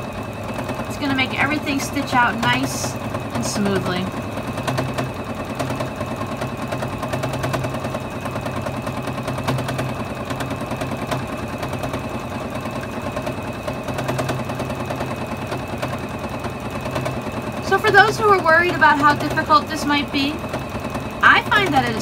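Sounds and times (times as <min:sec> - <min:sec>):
sewing machine stitching: 0:00.0 - 0:22.0.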